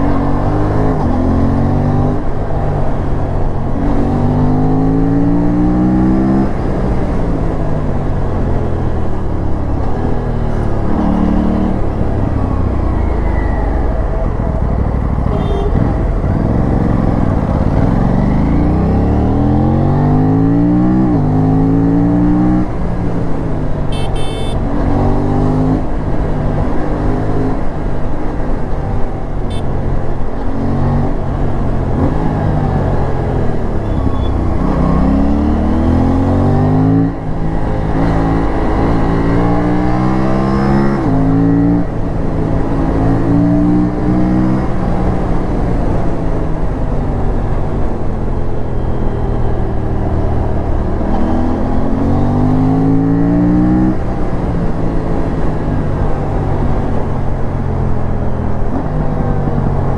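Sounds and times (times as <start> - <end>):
motorcycle engine revving through gears: 0.0 - 27.9, 29.5 - 59.9
wind and road noise: 0.0 - 59.9.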